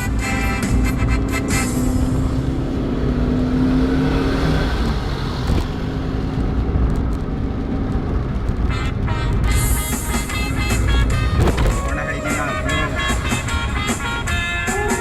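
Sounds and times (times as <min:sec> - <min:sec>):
engine hum: 0:00.0 - 0:15.0
vehicle engine rumble: 0:00.0 - 0:15.0.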